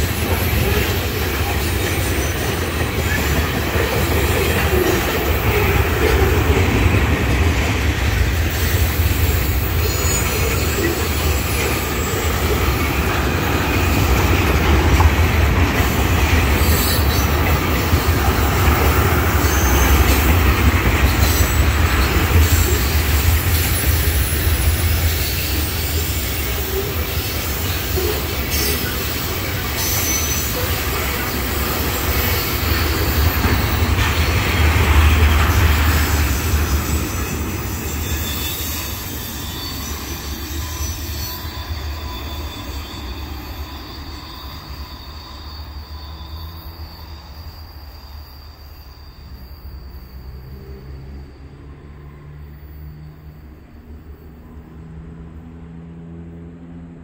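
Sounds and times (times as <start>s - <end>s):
wheel squeal: 0.0s - 7.2s, 8.4s - 54.8s
steel wheels rumbling on rails: 0.0s - 57.0s.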